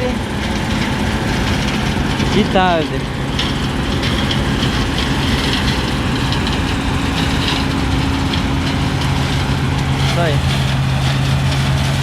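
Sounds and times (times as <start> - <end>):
harvester diesel engine droning: 0.0 - 12.0.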